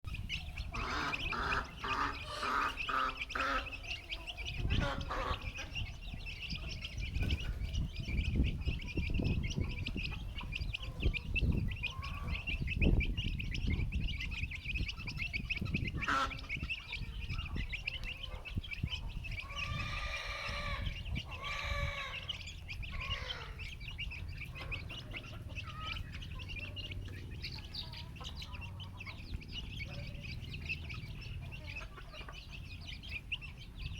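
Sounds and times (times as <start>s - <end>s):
chicks peeping: 0.1s - 33.9s.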